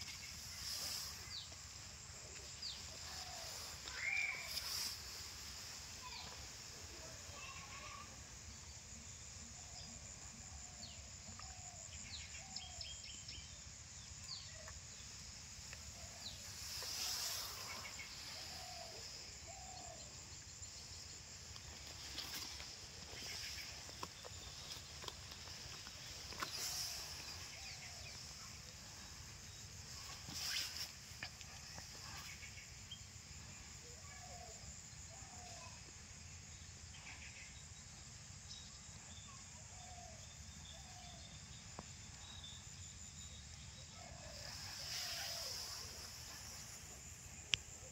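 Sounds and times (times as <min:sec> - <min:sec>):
steady high hiss: 0:00.0 - 0:38.8, 0:41.3 - 0:47.9.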